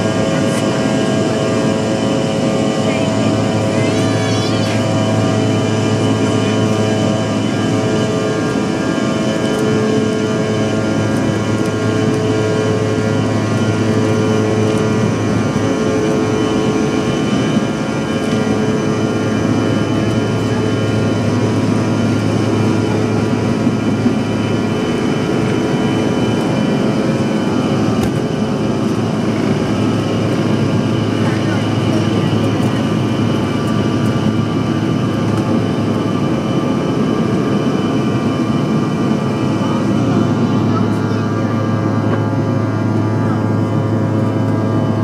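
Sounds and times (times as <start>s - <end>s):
jet engines roaring at takeoff: 0.0s - 45.0s.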